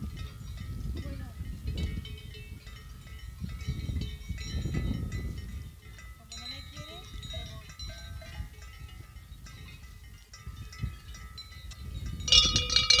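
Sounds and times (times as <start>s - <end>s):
livestock bells ringing: 0.0s - 13.0s
low wind rumble: 0.0s - 13.0s.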